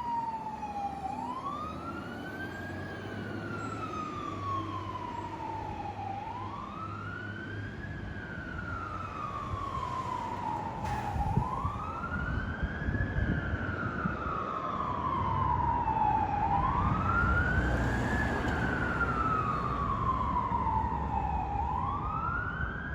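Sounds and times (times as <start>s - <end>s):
fire engine siren wailing: 0.0s - 22.9s.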